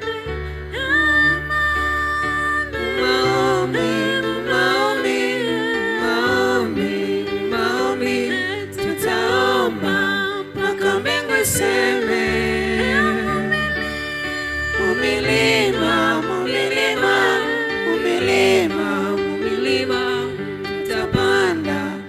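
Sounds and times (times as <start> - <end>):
low musical accompaniment: 0.0 - 22.0
voices singing gospel song: 2.3 - 22.0.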